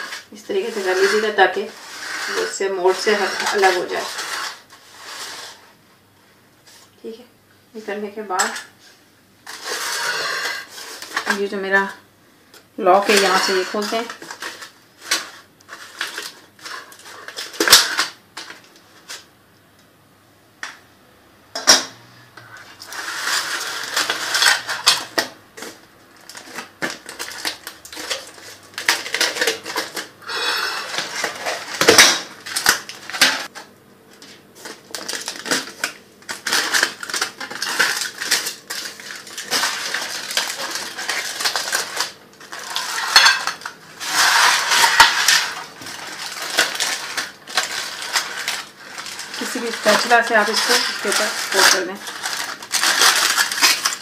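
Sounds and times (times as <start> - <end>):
aluminium foil crinkling: 0.0 - 5.6, 9.5 - 12.0, 12.8 - 19.3, 22.5 - 54.0.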